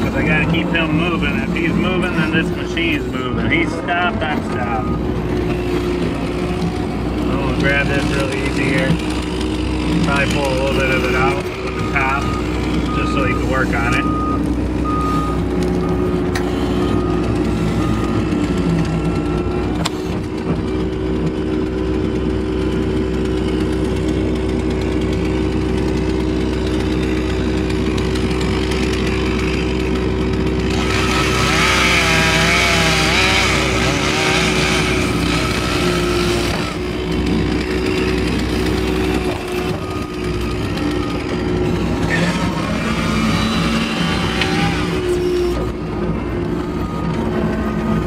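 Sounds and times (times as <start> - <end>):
chainsaw cutting: 0.0 - 48.0
diesel engine running: 0.0 - 48.0.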